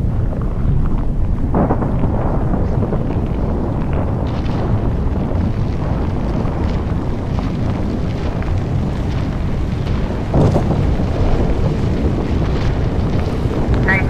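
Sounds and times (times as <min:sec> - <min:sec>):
deep rumble of building collapse: 0:00.0 - 0:14.0
wind buffeting microphone: 0:00.0 - 0:14.0.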